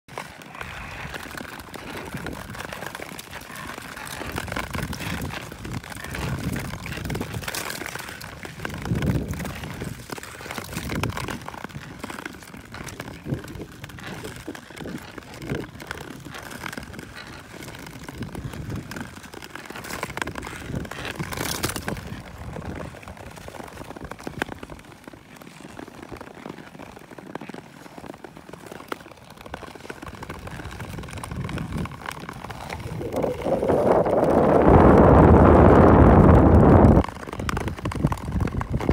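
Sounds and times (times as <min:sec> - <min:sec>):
skate blades scraping on ice: 0:00.1 - 0:38.9.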